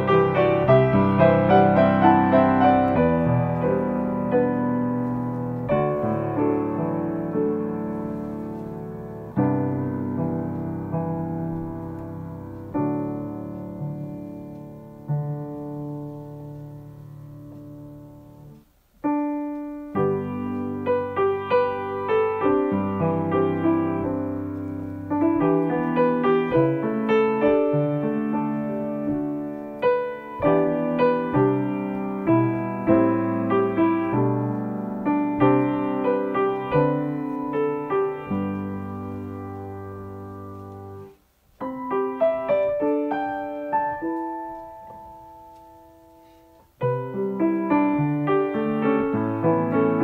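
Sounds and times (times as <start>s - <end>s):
solo piano: 0.0s - 50.0s.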